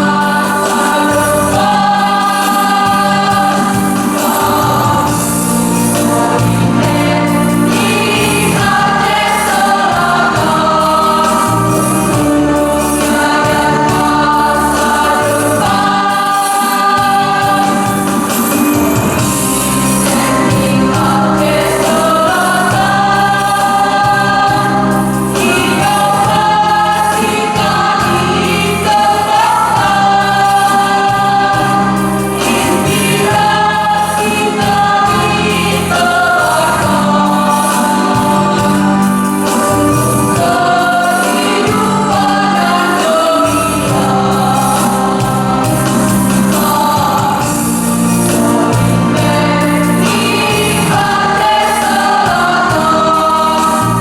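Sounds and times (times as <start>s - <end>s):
choir singing long notes: 0.0s - 54.0s.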